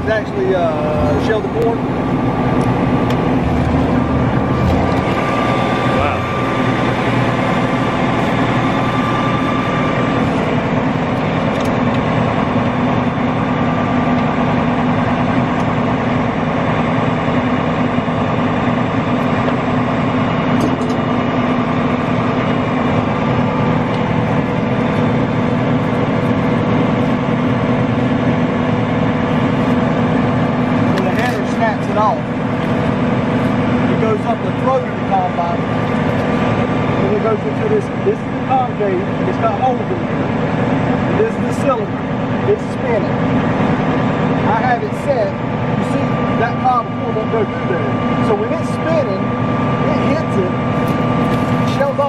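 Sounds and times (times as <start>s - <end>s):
combine harvester mechanical drone: 0.0s - 52.0s.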